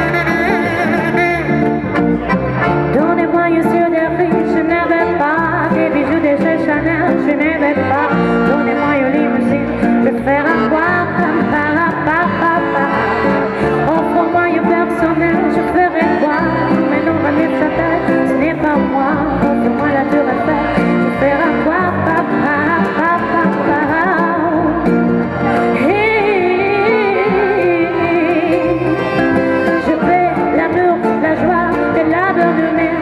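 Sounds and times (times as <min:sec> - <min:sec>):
accordion: 0:00.0 - 0:33.0
acoustic band music: 0:00.0 - 0:33.0
double bass: 0:00.0 - 0:33.0
guitar: 0:00.0 - 0:33.0.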